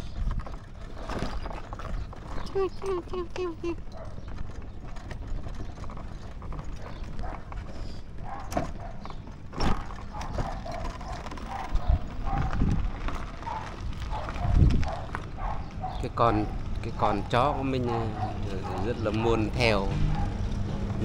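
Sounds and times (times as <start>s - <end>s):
wind rumbling on camera: 0.0s - 2.8s, 3.8s - 21.0s
small motorbike engine puttering: 0.0s - 21.0s.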